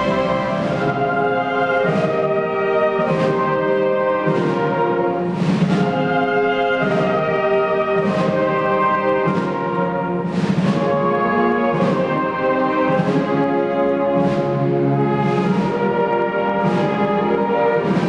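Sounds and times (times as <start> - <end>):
brass band playing slow march: 0.0 - 18.0
percussion strokes: 0.0 - 18.0.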